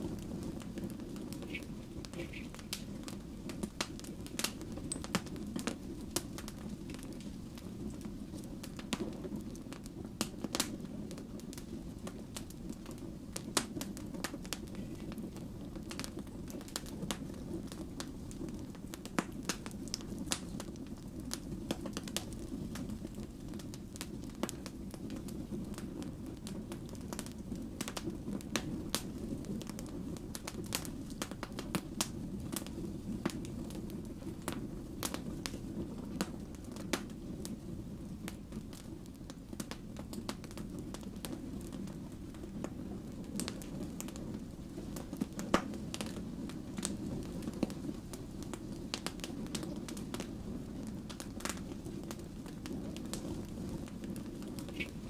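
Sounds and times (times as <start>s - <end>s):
burning logs crackling and popping: 0.0s - 55.0s
fire flames rushing: 0.0s - 55.0s.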